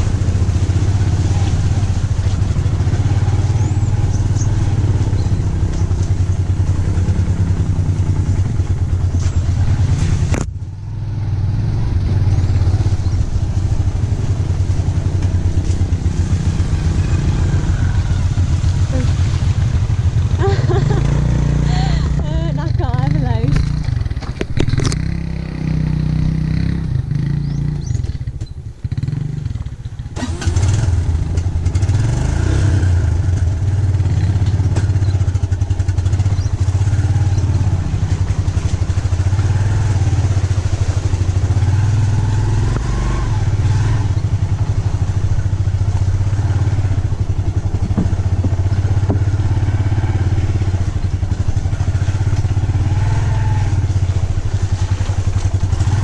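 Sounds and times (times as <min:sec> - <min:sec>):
small motorcycle engine running: 0:00.0 - 0:56.0.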